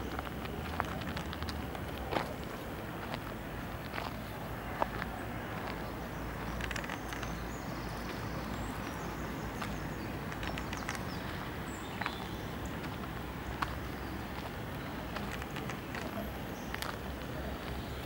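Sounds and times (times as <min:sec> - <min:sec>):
footsteps crunching on sandy path: 0:00.0 - 0:18.0
outdoor background hiss: 0:00.0 - 0:18.0.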